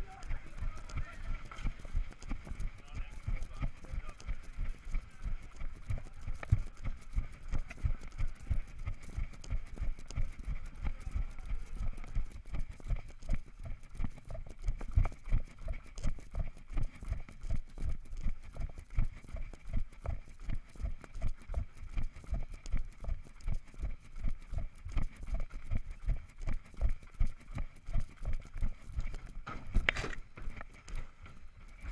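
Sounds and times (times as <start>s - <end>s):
running footsteps: 0.0s - 31.9s.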